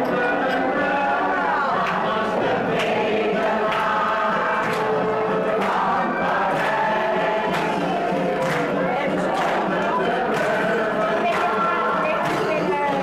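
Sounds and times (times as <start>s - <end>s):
pop song with singing: 0.0s - 13.0s.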